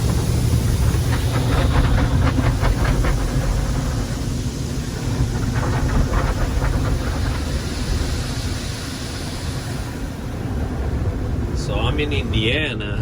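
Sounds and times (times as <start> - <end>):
water spray hissing on car: 0.0 - 12.3
car wash machinery rumble: 0.0 - 13.0.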